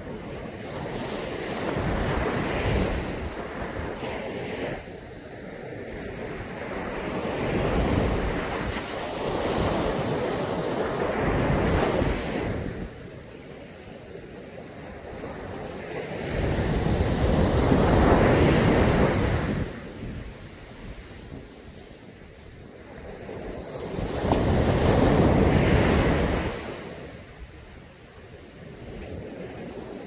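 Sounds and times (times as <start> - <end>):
sea waves breaking on a beach: 0.0 - 30.0.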